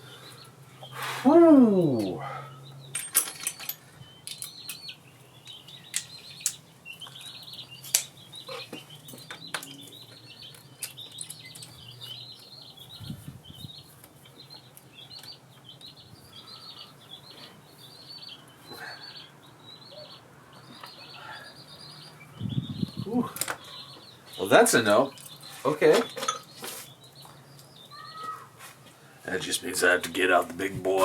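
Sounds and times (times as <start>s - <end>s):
bird chirping: 0.0s - 28.5s.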